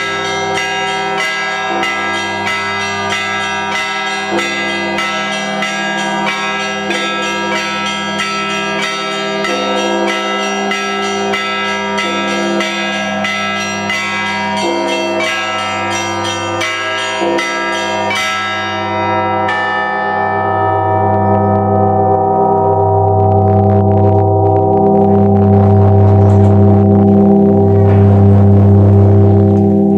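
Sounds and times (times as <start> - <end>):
bell struck and ringing on: 0.0 - 29.9
deep bell hum: 0.0 - 29.9
steady ringing bell tone: 0.0 - 29.9.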